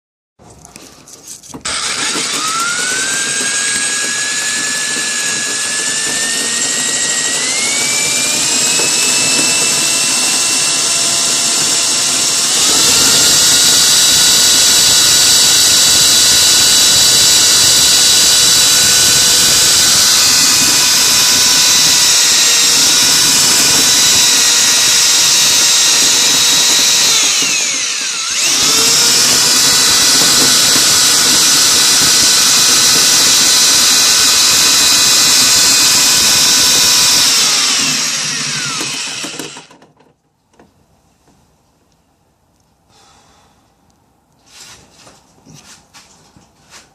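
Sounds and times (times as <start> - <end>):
power drill whining: 1.6 - 39.9.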